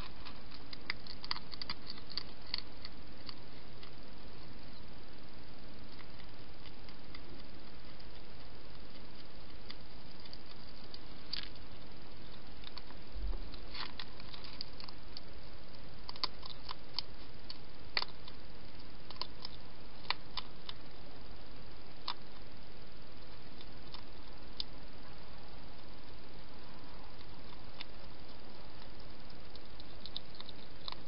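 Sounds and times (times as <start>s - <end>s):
hedgehog crunching food: 0.0s - 31.0s
steady hiss: 0.0s - 31.0s.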